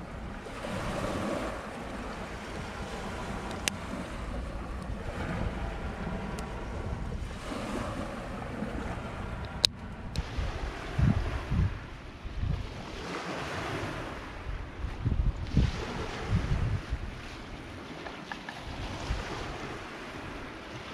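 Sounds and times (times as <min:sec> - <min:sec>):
surf breaking on shore: 0:00.0 - 0:20.9
wind on microphone: 0:00.0 - 0:20.9.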